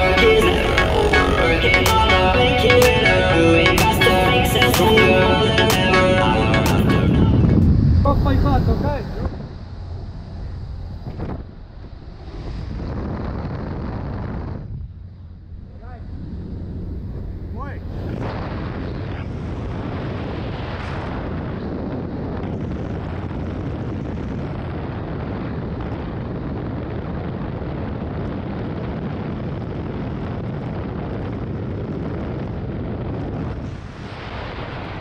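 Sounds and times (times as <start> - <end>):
airflow rush: 0.0 - 25.7, 32.7 - 35.0
propeller engine noise: 0.0 - 35.0
wind buffeting microphone: 0.0 - 35.0.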